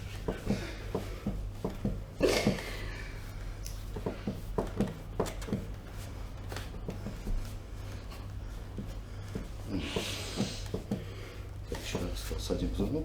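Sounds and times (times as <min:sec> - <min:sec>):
light irregular taps: 0:00.0 - 0:13.0
rustling of people shifting: 0:00.0 - 0:13.0
steady low hum: 0:00.0 - 0:13.0.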